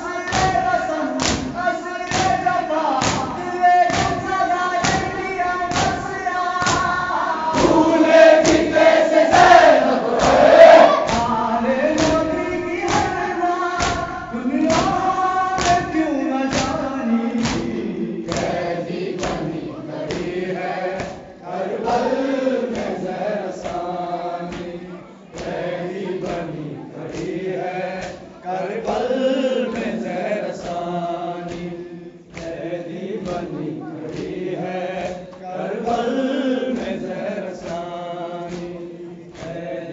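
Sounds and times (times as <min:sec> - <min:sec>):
people chanting together: 0:00.0 - 0:39.9
rhythmic chest-beating thumps: 0:00.0 - 0:39.9.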